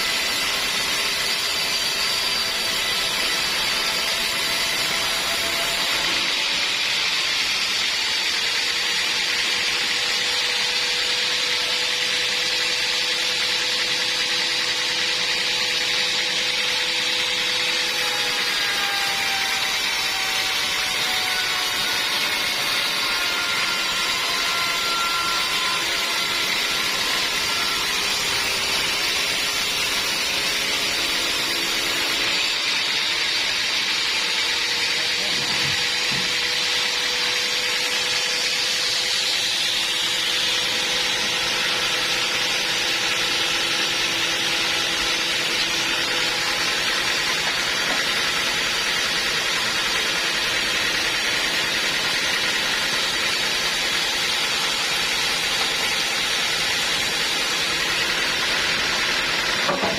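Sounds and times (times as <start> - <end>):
band saw running with whine: 0.0 - 59.9.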